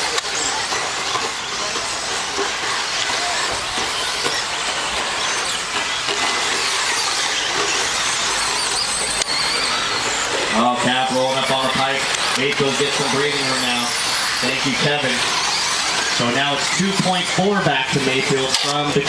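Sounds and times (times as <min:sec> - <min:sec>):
electric model trucks racing: 0:00.0 - 0:19.0
high motor whines: 0:00.0 - 0:19.0.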